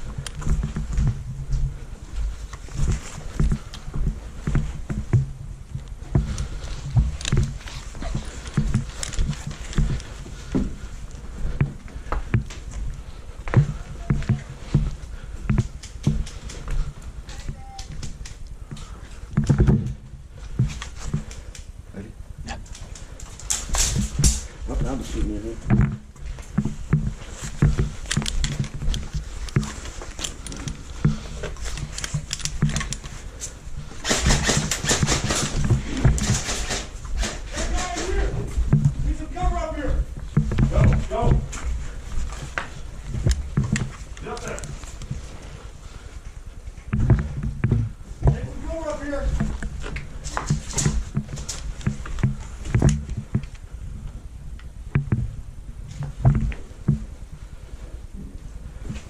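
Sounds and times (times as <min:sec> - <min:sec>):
footsteps thumping: 0:00.0 - 0:59.0.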